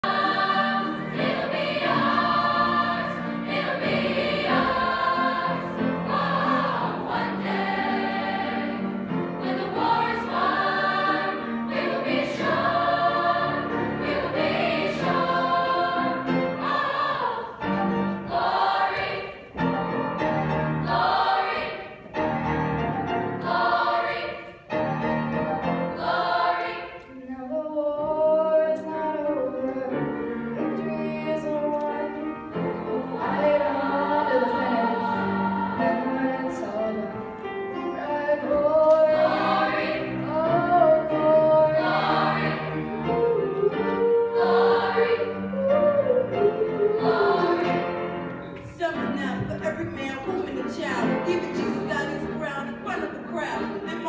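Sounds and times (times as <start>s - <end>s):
choir singing: 0.0s - 48.6s, 50.5s - 54.0s.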